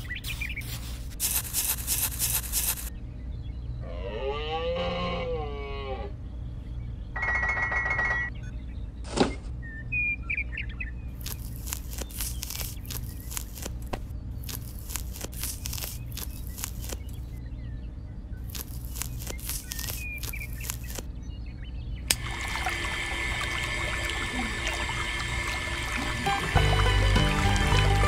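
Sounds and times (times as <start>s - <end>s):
birds chirping: 0.0s - 5.4s, 6.0s - 28.0s
steady low hum: 0.0s - 7.2s, 8.3s - 28.0s.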